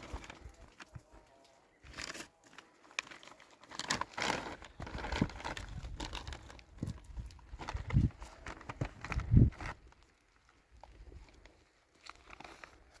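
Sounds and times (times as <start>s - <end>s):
plastic sheeting crinkling: 1.8s - 10.7s, 11.5s - 13.0s.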